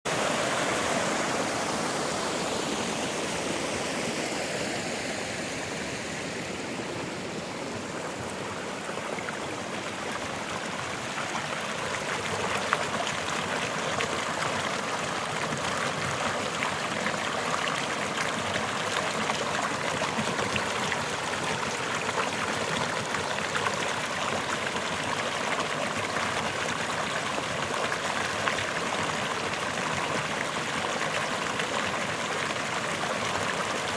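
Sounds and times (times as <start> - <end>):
running water in a brook: 0.1 - 33.9.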